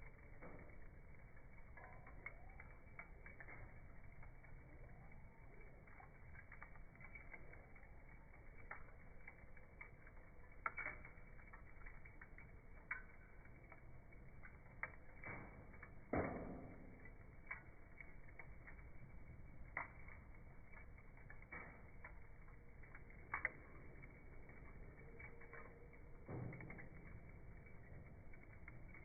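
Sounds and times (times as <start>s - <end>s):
charcoal fire crackling: 0.0s - 29.0s.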